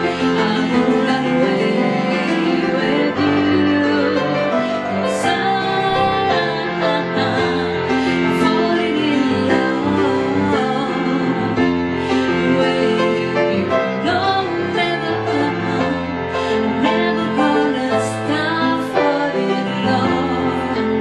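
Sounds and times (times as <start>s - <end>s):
piano accompaniment: 0.0s - 21.0s
woman singing: 0.0s - 21.0s.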